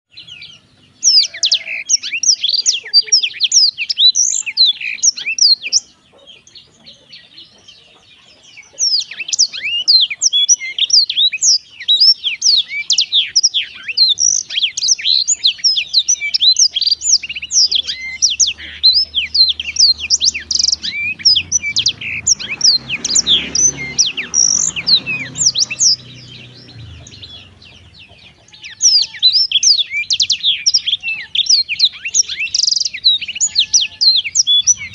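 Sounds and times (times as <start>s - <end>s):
bird singing high twittering trills: 0.1s - 34.9s.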